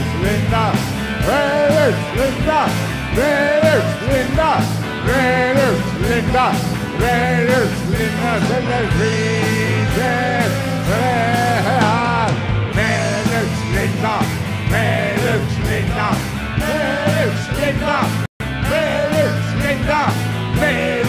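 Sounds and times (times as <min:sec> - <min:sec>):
bass guitar: 0:00.0 - 0:21.0
drums with steady beat: 0:00.0 - 0:21.0
electric guitar: 0:00.0 - 0:21.0
man singing: 0:00.0 - 0:21.0.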